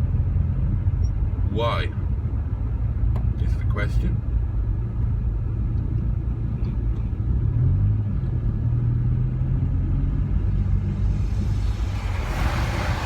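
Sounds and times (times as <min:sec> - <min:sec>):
car engine and cabin rumble: 0:00.0 - 0:13.0.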